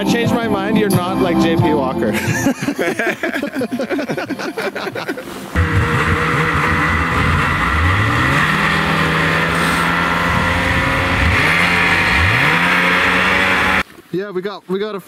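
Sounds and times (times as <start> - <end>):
snowmobiles revving: 0.0 - 13.9.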